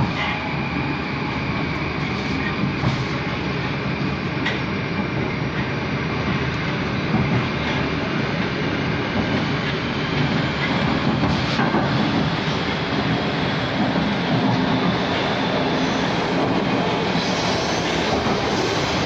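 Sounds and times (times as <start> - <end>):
train motors and wheels on rails: 0.0 - 19.0.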